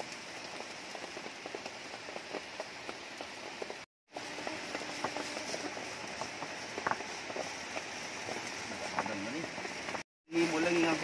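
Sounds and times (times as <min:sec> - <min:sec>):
rain falling on rocks and leaves: 0:00.0 - 0:11.0.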